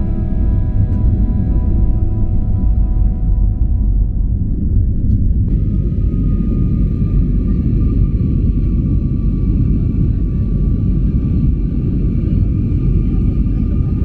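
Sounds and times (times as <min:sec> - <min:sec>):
faint engine whine: 0:00.0 - 0:14.0
jet cabin low rumble: 0:00.0 - 0:14.0.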